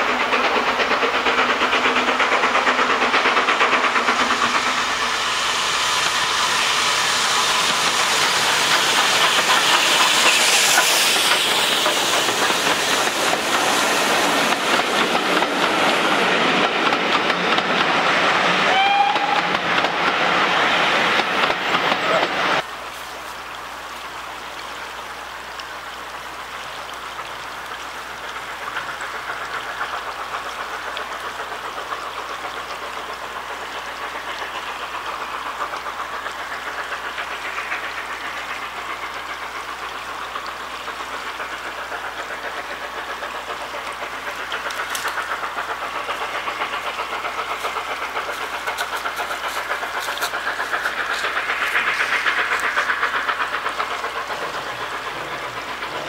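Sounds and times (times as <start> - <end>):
distant train running: 0.0 - 56.0
sharp clicks of train wheels: 0.0 - 56.0.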